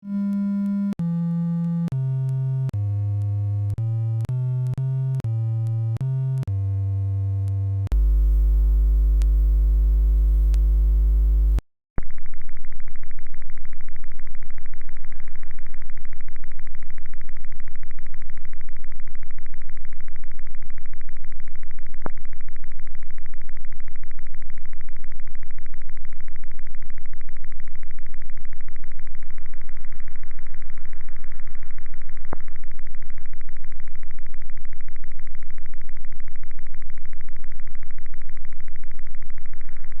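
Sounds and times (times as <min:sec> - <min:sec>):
loud pulsing electrical buzz: 0:06.5 - 0:40.0.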